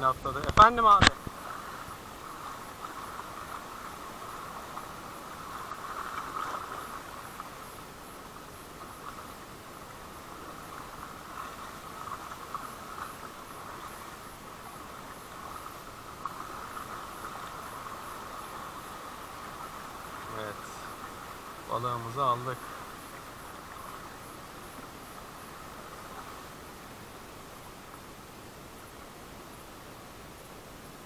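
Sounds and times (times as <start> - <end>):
crickets chirring: 0.0 - 31.0.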